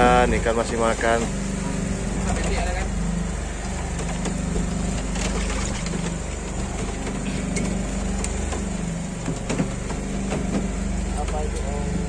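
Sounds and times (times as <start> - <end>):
boat engine running: 0.0 - 12.0
rain hissing on water: 0.0 - 12.0.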